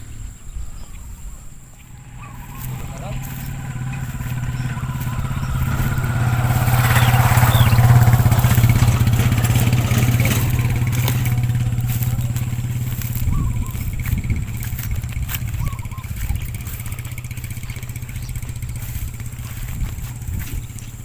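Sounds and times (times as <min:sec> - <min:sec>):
small engine humming: 0:00.0 - 0:21.0.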